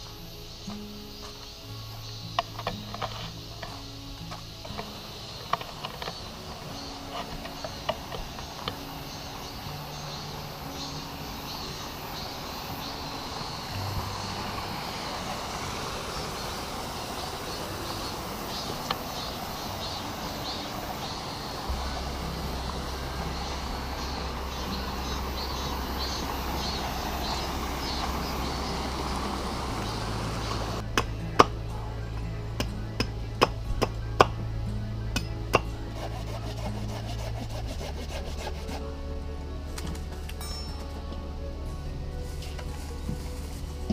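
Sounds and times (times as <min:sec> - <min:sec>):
steady rushing noise: 0:00.0 - 0:40.1
music with long low notes: 0:00.0 - 0:43.9.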